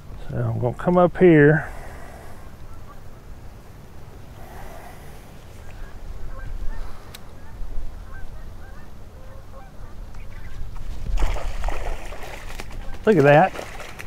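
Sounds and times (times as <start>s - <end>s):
wind rumble on microphone: 1.7s - 14.0s.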